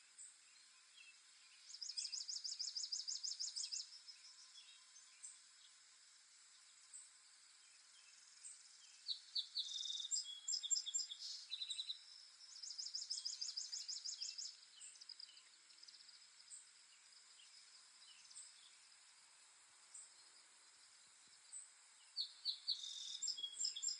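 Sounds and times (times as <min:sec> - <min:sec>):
faint steady hiss: 0:00.0 - 0:23.9
songbirds chirping: 0:00.0 - 0:23.9.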